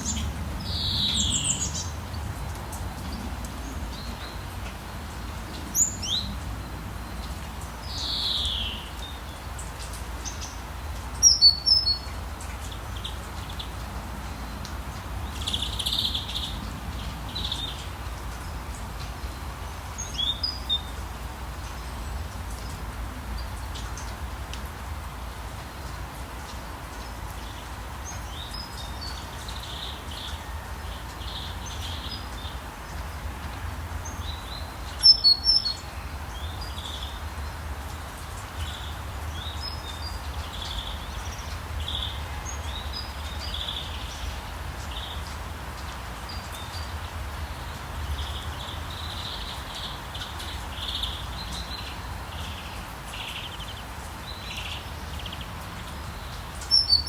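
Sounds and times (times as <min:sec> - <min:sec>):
small birds chirping: 0:00.0 - 0:24.2, 0:25.7 - 0:57.0
rain hissing: 0:00.0 - 0:57.0.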